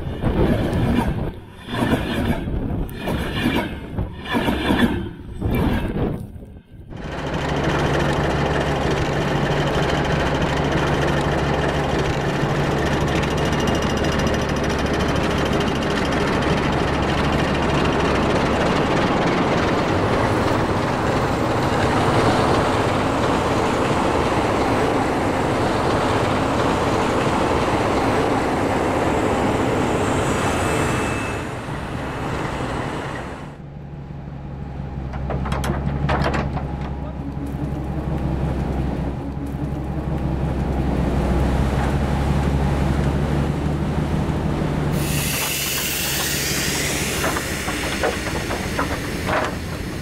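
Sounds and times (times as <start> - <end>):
train rumbling on rails: 0.0 - 50.0
low engine hum: 4.8 - 50.0.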